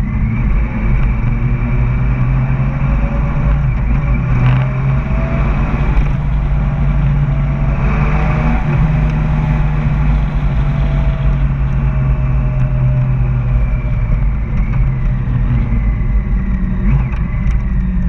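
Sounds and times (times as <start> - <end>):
road and wind rumble: 0.0 - 18.0
vehicle engine hum: 0.0 - 18.0.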